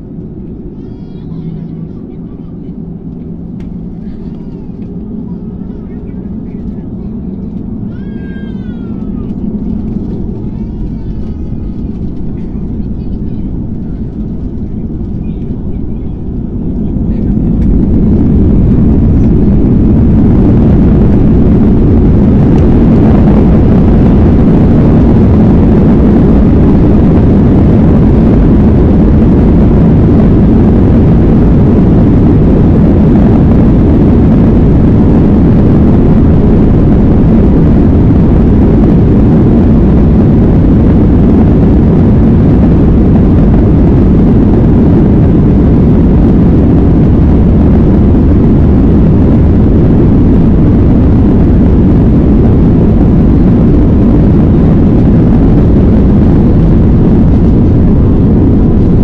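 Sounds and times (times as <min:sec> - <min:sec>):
jet engines roaring: 0:00.0 - 0:59.0
wheels rumbling on runway: 0:00.0 - 0:59.0.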